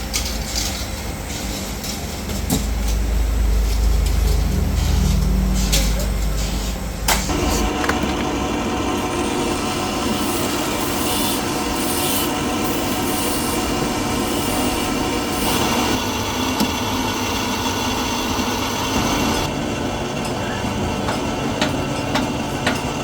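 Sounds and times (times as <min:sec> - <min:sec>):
steady hum tones: 0:00.0 - 0:22.7
factory machinery running: 0:00.0 - 0:23.0.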